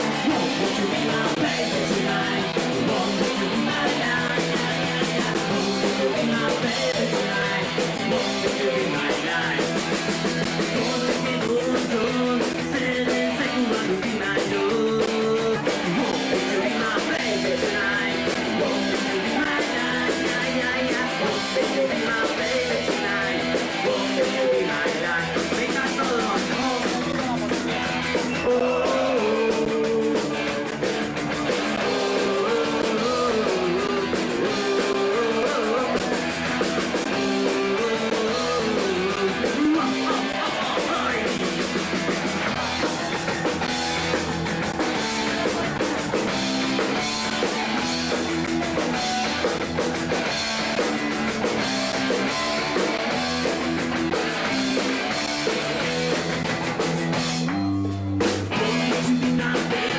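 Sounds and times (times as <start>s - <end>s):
person singing: 0.0s - 48.2s, 58.4s - 59.9s
electric guitar: 0.0s - 59.9s
punk rock band playing: 0.0s - 59.9s.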